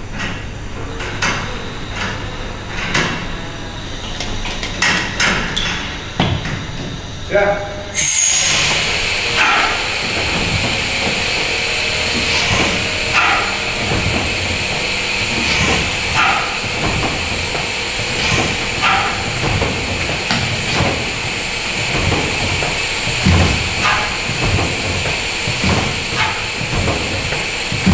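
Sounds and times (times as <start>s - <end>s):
engine air puffs: 1.3s - 27.9s
compressed air hissing: 4.8s - 27.9s.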